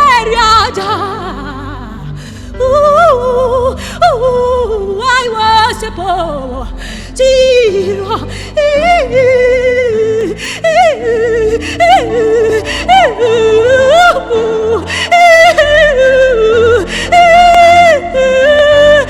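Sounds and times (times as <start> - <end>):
sustained instrumental backing: 0.0 - 19.0
woman singing wordless vibrato: 0.0 - 19.0.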